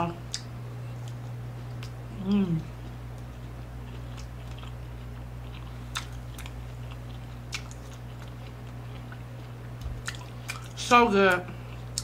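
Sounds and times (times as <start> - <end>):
low steady hum: 0.0 - 12.0
person chewing food: 0.2 - 12.0.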